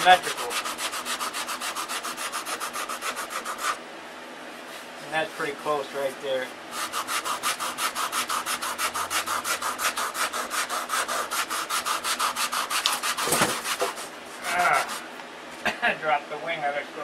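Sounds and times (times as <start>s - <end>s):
sandpaper rubbing on wood: 0.0s - 3.8s, 5.1s - 15.1s.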